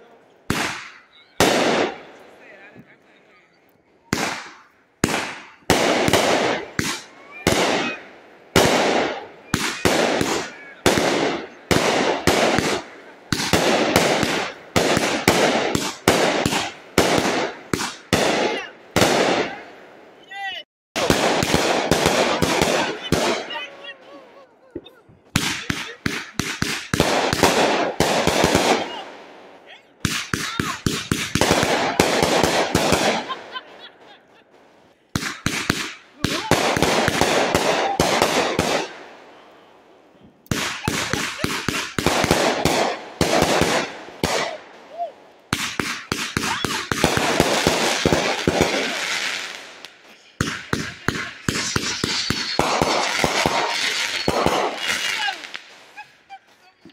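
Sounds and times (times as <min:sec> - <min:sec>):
fireworks crackling bangs: 0:00.0 - 0:03.1, 0:03.9 - 0:20.2, 0:21.0 - 0:56.9.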